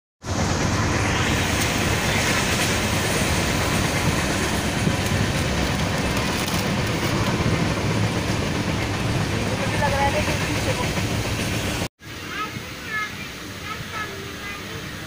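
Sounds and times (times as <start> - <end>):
train wheels rumbling on rails: 0.2 - 15.0.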